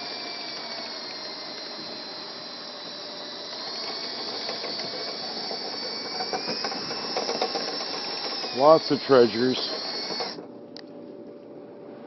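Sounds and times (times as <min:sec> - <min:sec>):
electric drill spinning brush: 0:00.0 - 0:10.5.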